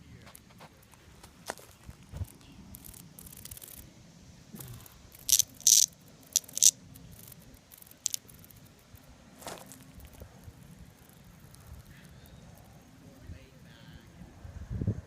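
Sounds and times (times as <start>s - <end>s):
cicada harsh buzzing: 1.5s - 14.2s.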